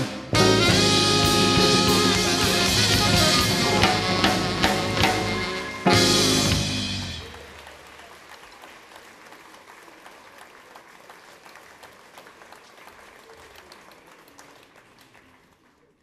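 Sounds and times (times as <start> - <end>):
audience applauding: 1.5 - 16.0.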